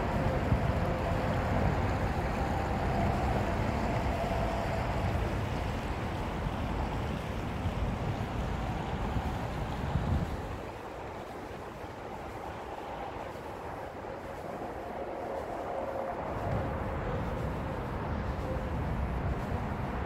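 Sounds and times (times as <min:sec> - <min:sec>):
faint steady hum: 0:00.0 - 0:20.0
wind buffeting microphone: 0:00.0 - 0:20.0.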